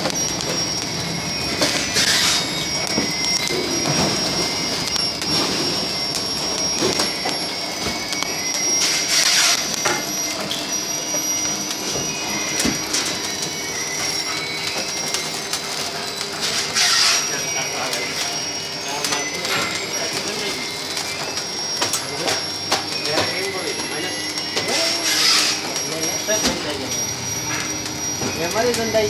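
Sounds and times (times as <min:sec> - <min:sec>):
thin high machine whine: 0:00.0 - 0:29.0.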